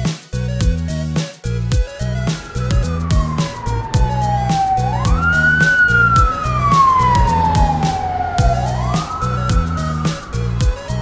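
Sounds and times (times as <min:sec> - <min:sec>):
background music with steady beat: 0:00.0 - 0:11.0
ambulance siren wailing: 0:01.5 - 0:11.0.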